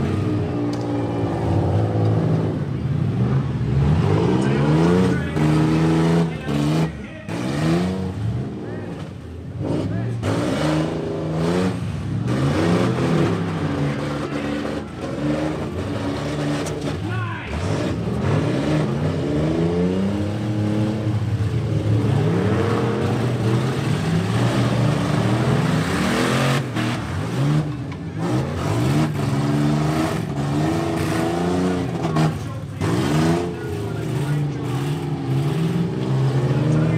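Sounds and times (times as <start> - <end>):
truck engines revving: 0.0 - 36.9
trucks colliding: 3.1 - 36.9.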